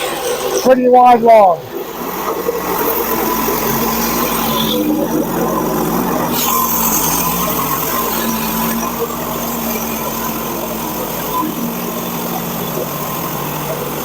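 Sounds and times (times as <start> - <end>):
band saw cutting through log: 0.0 - 14.0
small gasoline engine running: 0.0 - 14.0.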